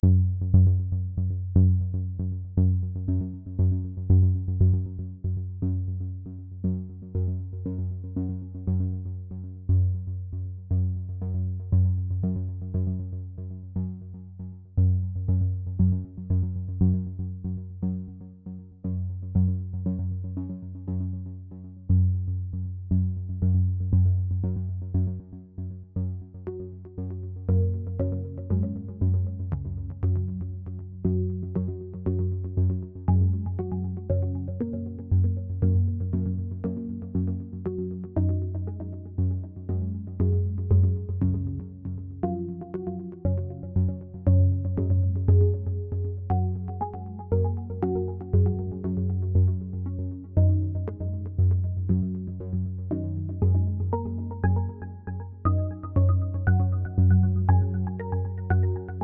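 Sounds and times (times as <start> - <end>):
electronic music with synthesizer: 0.0 - 59.0.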